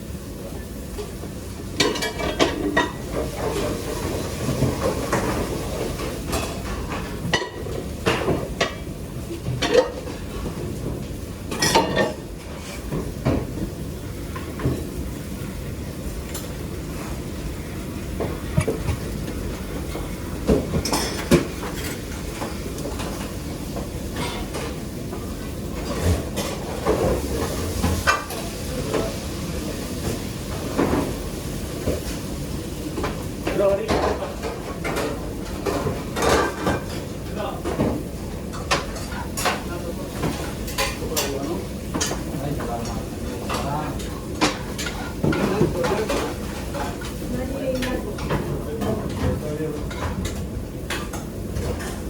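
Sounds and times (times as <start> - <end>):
steady background noise: 0.0 - 52.0
pots and pans clanking: 1.0 - 15.0, 18.2 - 29.3, 32.9 - 52.0.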